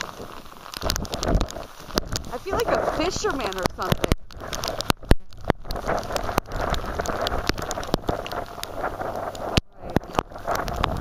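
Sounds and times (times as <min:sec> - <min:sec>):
driving rain: 0:00.0 - 0:11.0
wind buffeting microphone: 0:00.0 - 0:11.0.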